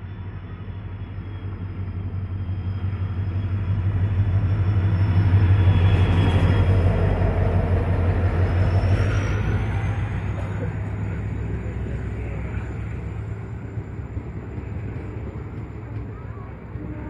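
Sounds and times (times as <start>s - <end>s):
diesel locomotive engine drone: 0.0s - 17.0s
rail noise: 0.0s - 17.0s.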